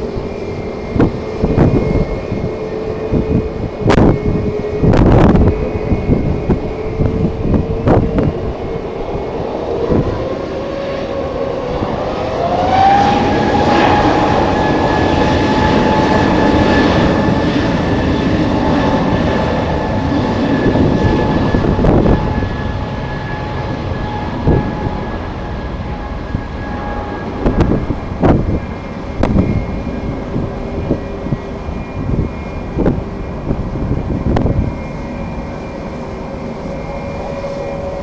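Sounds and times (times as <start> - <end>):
jet engines spooling up: 0.0 - 38.0
wind buffeting microphone: 0.0 - 38.0.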